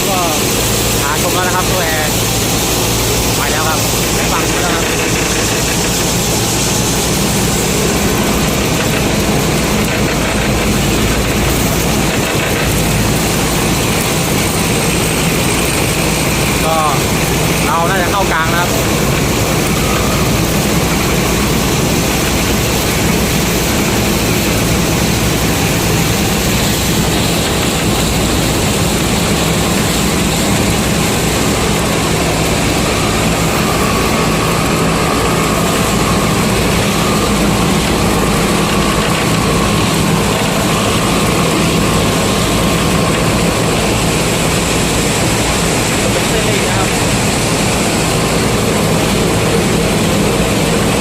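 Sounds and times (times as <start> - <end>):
combine harvester engine running: 0.0 - 51.0
faint high whine: 0.0 - 51.0.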